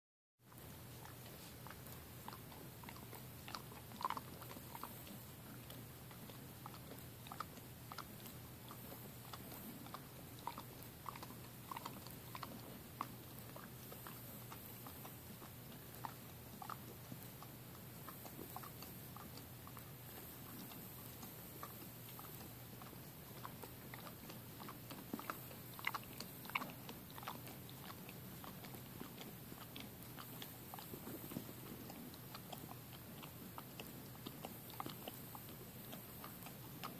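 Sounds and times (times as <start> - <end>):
dog licking: 0.5 - 36.9.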